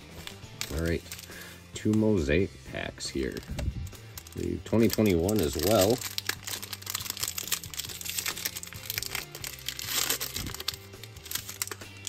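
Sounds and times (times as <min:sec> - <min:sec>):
foil wrapper crinkling: 0:00.0 - 0:02.0, 0:03.2 - 0:12.0
soft background music: 0:00.0 - 0:12.0.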